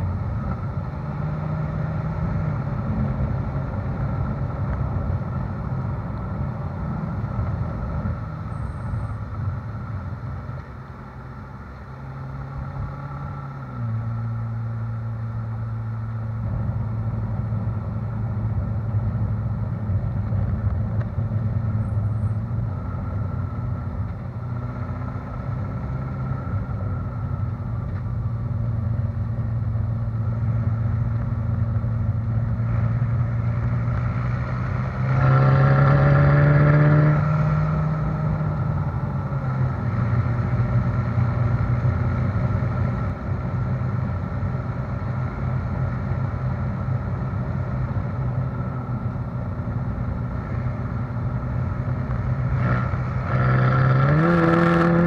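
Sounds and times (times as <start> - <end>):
car exhaust cruising: 0.0 - 55.0
road rumble: 0.0 - 55.0.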